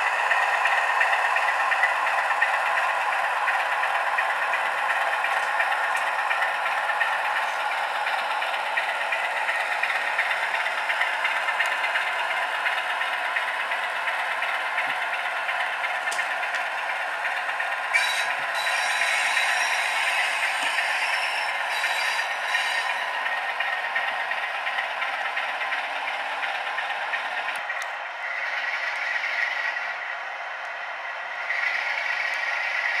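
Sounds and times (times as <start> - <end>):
diesel engine sound from small speaker: 0.0 - 33.0.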